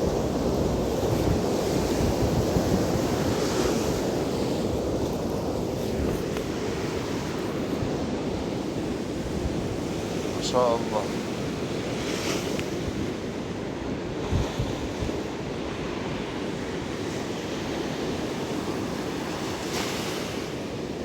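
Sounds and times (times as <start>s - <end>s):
waves breaking on shore: 0.0s - 21.0s
wind buffeting microphone: 0.0s - 21.0s.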